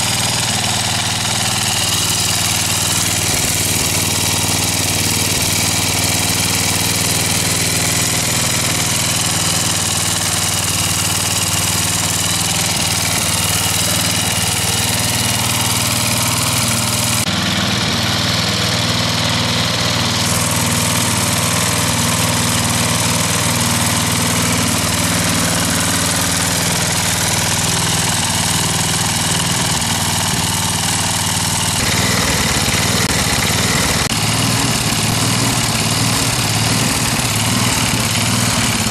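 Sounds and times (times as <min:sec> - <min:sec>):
riding mower engine idling: 0:00.0 - 0:38.9.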